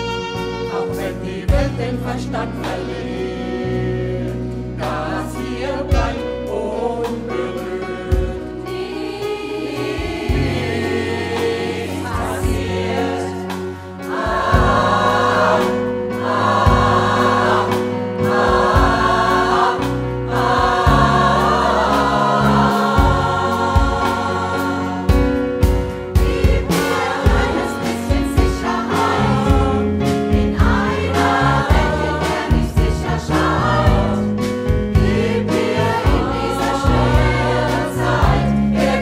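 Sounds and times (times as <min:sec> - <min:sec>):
band with steady bass line: 0:00.0 - 0:39.0
mixed choir singing pop song: 0:00.0 - 0:39.0.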